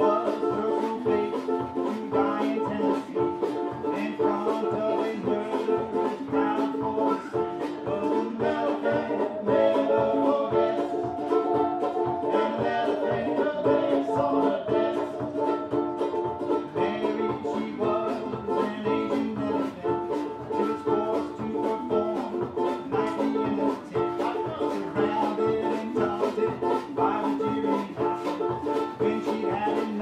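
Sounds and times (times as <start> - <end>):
banjo strumming: 0.0 - 30.0
string band playing: 0.0 - 30.0.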